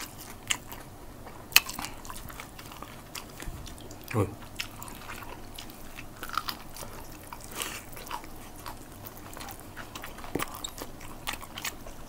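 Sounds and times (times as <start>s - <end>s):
people chewing and smacking lips: 0.0s - 12.0s.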